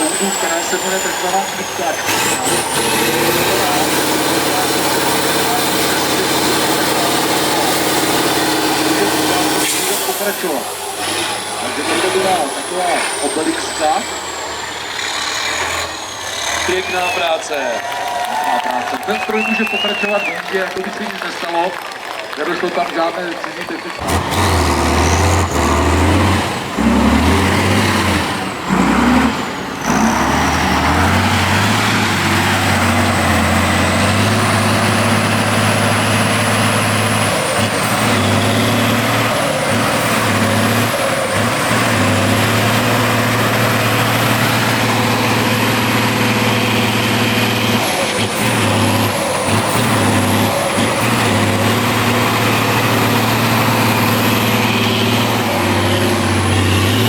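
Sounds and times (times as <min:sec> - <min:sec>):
truck engine under load: 0:00.0 - 0:57.0.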